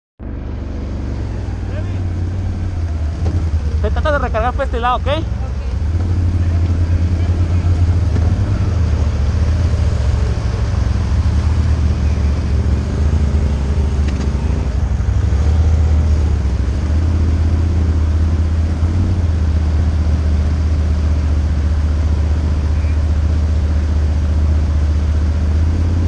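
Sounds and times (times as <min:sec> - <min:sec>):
atv engine droning: 0:00.2 - 0:26.0.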